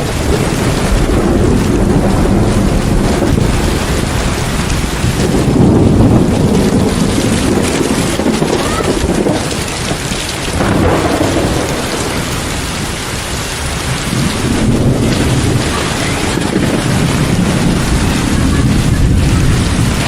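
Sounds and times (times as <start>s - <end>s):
heavy rain pouring: 0.0s - 20.0s
low rolling thunder: 0.0s - 20.0s.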